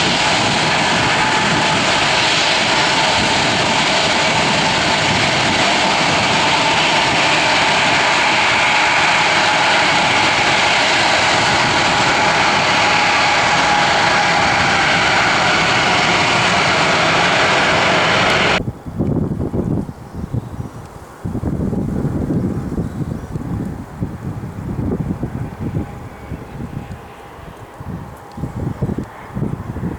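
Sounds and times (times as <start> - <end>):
airliner engines roaring: 0.0 - 29.9
wind noise on microphone: 0.0 - 29.9.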